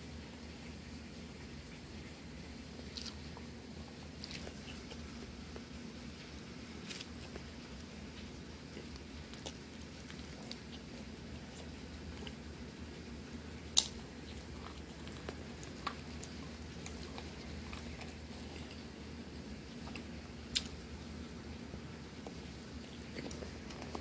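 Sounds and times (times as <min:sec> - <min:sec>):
steady low hum: 0:00.0 - 0:24.0
fingers squishing salad: 0:01.4 - 0:24.0
person chewing: 0:02.8 - 0:21.0, 0:22.1 - 0:24.0.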